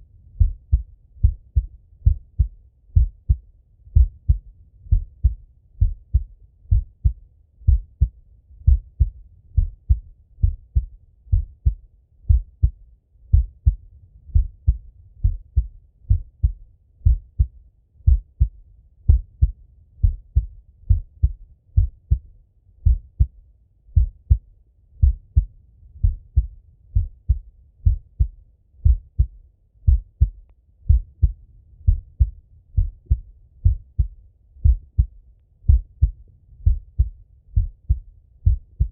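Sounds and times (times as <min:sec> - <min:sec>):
heartbeat through stethoscope: 0:00.4 - 0:38.9.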